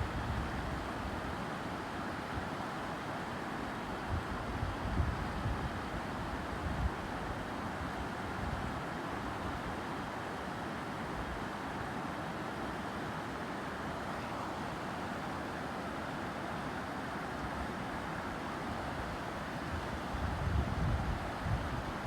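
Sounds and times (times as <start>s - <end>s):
mountain stream rushing: 0.0s - 4.8s, 5.8s - 20.4s.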